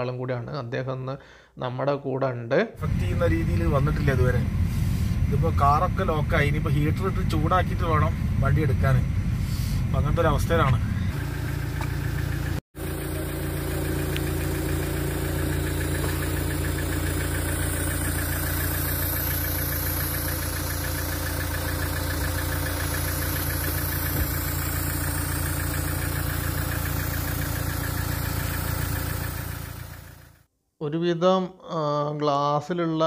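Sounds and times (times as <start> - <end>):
car engine idling: 2.8 - 30.5.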